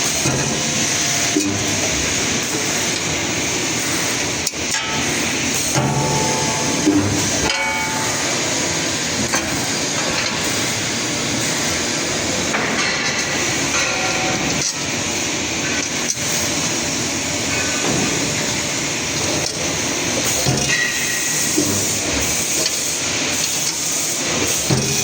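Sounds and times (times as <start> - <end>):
welding machine noise: 0.0 - 25.0.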